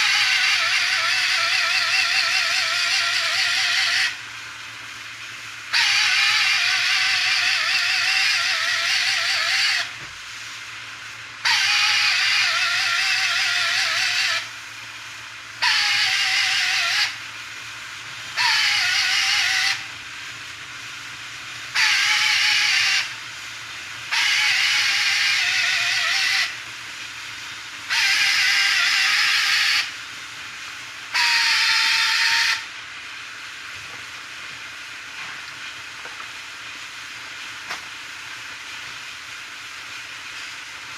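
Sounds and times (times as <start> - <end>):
hissing spray from nozzle: 0.0 - 40.9.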